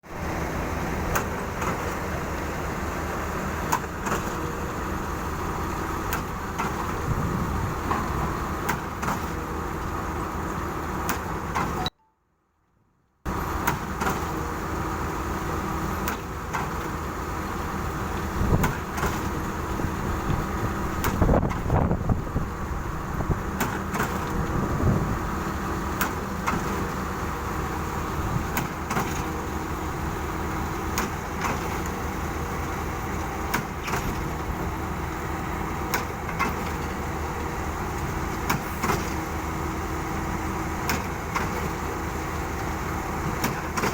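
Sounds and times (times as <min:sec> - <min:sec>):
diesel engines running: 0:00.0 - 0:11.9, 0:13.3 - 0:43.9.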